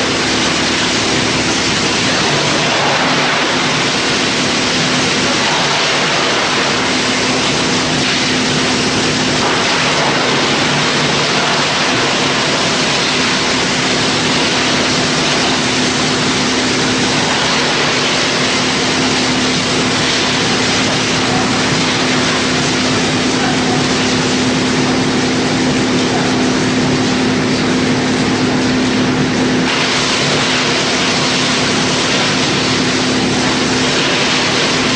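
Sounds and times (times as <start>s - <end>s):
wood chipper running: 0.0s - 34.9s.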